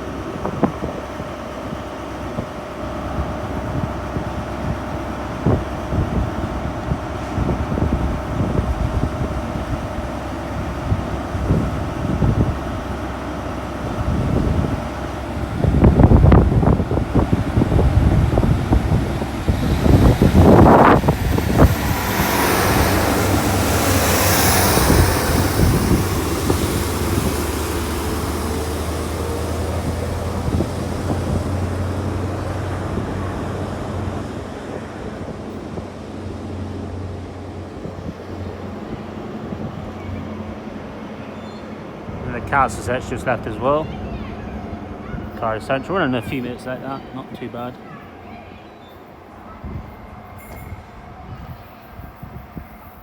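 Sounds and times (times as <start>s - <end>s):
diesel engine drone: 0.0s - 48.0s.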